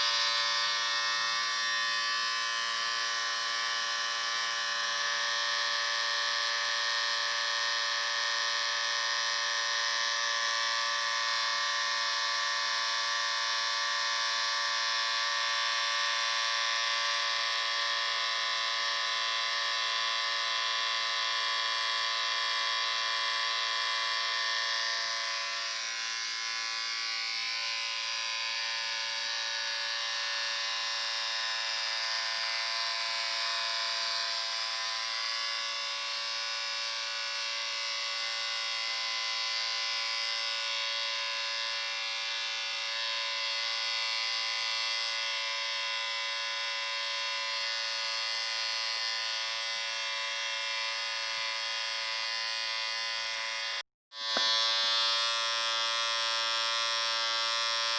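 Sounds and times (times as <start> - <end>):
electric shaver humming: 0.0 - 57.9.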